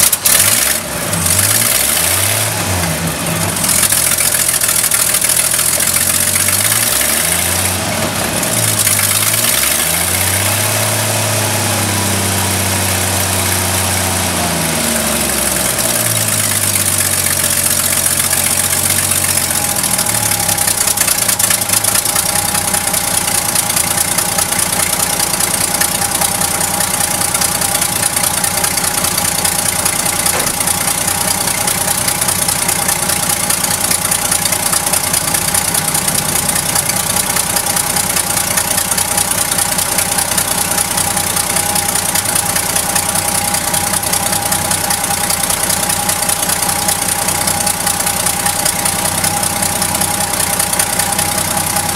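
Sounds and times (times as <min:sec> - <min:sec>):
pickup truck engine revving and idling: 0:00.0 - 0:51.9.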